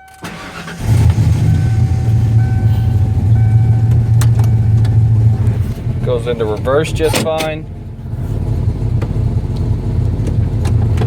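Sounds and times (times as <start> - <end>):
car engine idling: 0.2 - 11.0.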